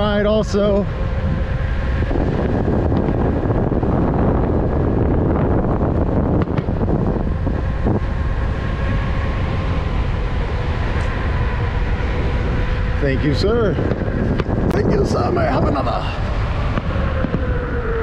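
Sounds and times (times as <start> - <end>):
faint steady tones: 0.0 - 18.0
wind buffeting microphone: 0.0 - 18.0.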